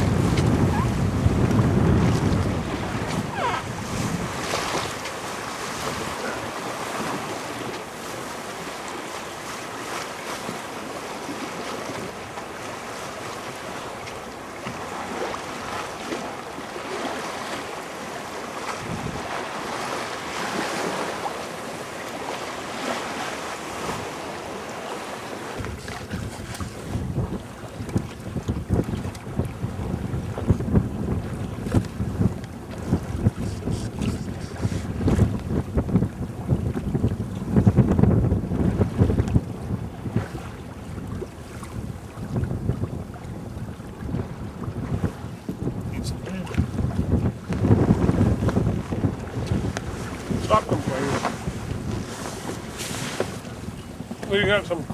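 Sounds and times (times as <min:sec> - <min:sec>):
water splashing along hull: 0:00.0 - 0:54.9
wind buffeting microphone: 0:00.0 - 0:54.9.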